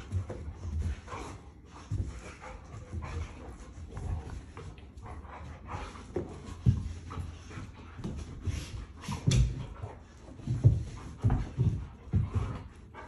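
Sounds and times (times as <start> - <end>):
dogs grunting and breathing: 0.0 - 13.0
paws scuffling on carpet: 0.0 - 13.0.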